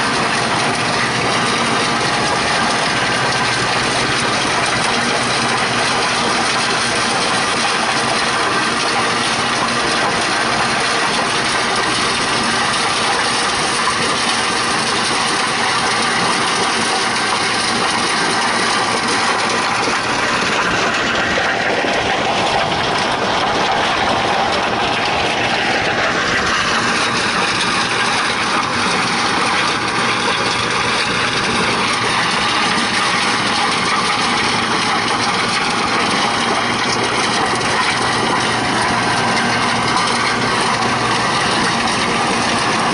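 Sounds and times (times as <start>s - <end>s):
stone crusher grinding stones: 0.0s - 42.9s
tractor engine running: 0.0s - 42.9s.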